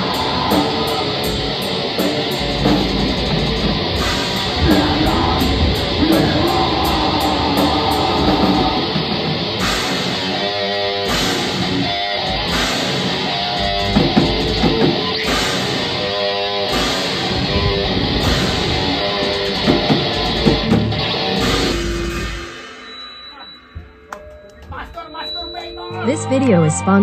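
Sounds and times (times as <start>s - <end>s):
metal band playing live: 0.0s - 23.6s.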